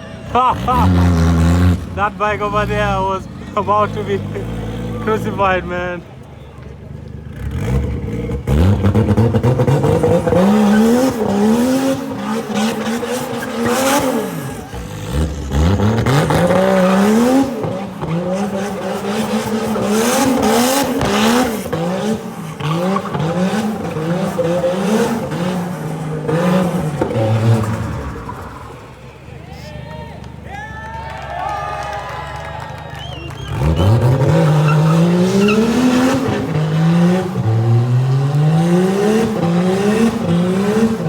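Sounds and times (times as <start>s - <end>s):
car engine revving hard: 0.2s - 6.0s, 7.0s - 29.2s, 33.3s - 41.0s.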